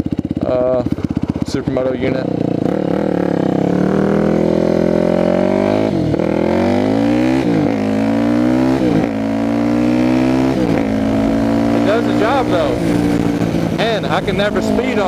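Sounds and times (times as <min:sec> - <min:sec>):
motorbike engine accelerating: 0:00.0 - 0:15.0.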